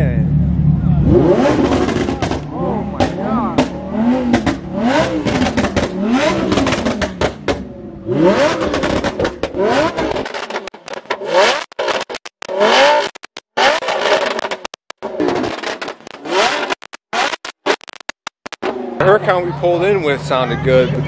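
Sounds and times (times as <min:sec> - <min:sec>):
car engine revving: 0:00.0 - 0:20.4
exhaust cracks: 0:00.5 - 0:19.1.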